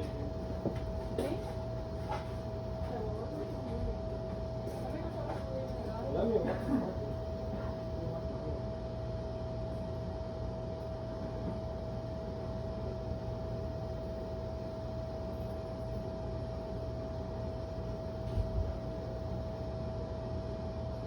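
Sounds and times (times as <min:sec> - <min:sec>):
steady hum and hiss: 0:00.0 - 0:21.0.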